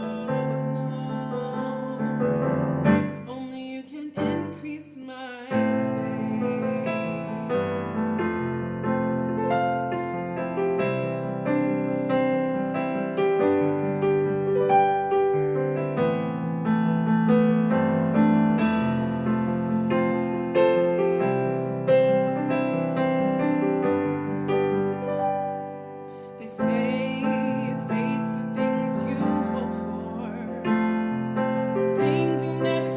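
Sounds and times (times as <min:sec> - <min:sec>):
solo piano playing: 0:00.0 - 0:32.9.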